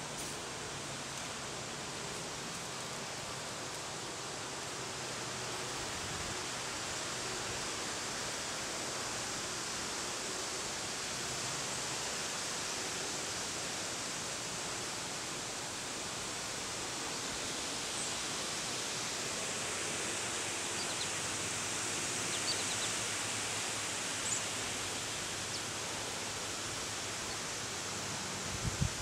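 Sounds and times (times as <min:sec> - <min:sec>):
wind rushing through leafy plants: 0:00.0 - 0:29.0.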